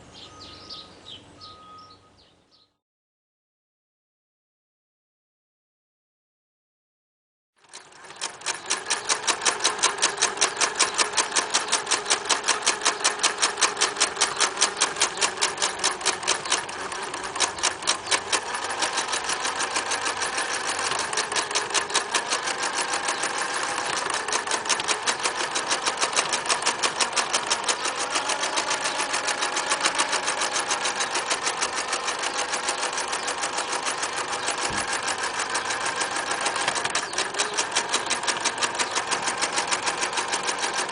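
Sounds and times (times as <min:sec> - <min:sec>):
sewing machine stitching: 0:07.6 - 0:40.9.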